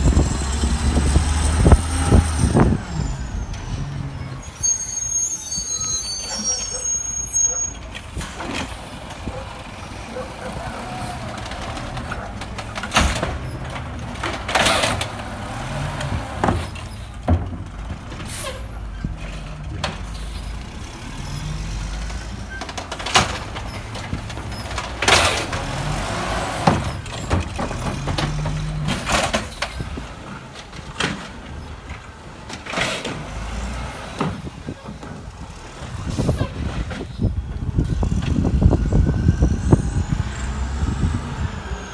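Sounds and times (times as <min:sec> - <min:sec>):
garbage truck engine running: 0:00.0 - 0:04.8, 0:07.5 - 0:41.9.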